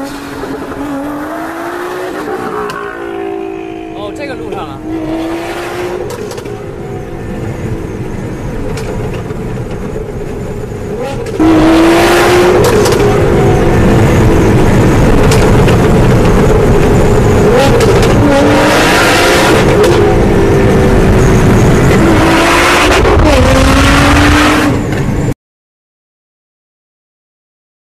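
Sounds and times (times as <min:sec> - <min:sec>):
sports car engine accelerating: 0:00.0 - 0:09.6, 0:10.7 - 0:25.3.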